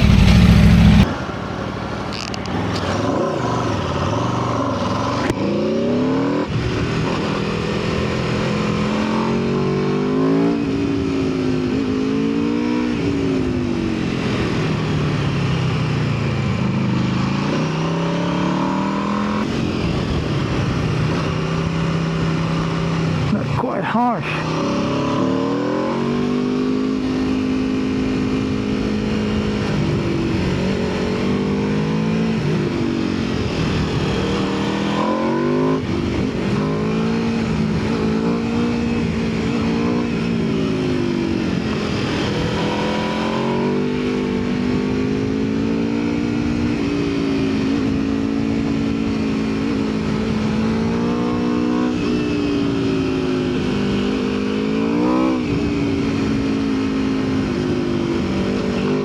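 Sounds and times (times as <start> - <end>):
motorcycle engine revving: 0.0 - 1.4, 2.1 - 59.0.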